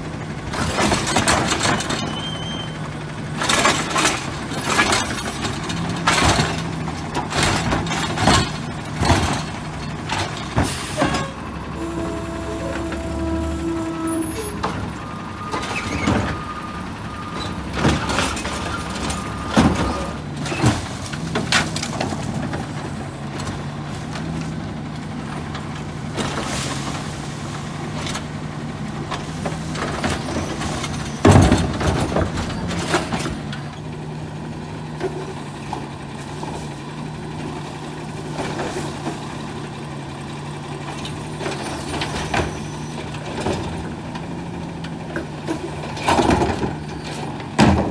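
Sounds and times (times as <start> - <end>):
carts clanking and banging: 0.0 - 34.2, 34.8 - 47.9
garbage truck engine running: 0.0 - 47.9.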